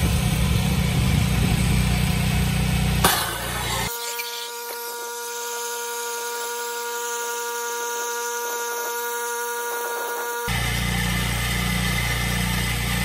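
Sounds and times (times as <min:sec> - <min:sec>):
sped-up pressure washer whine: 0:00.0 - 0:13.0.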